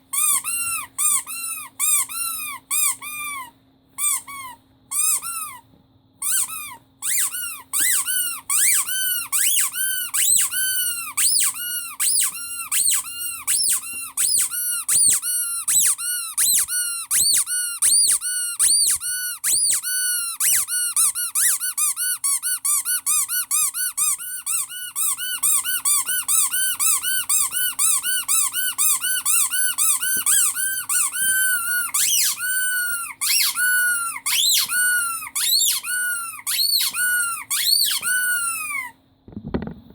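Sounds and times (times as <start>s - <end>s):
rubber squeaky toy squeaking: 0.0s - 39.0s.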